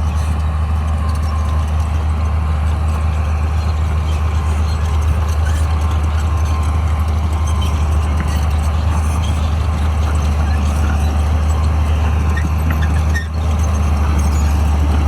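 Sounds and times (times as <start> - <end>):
bulldozer diesel engine drone: 0.0 - 15.0.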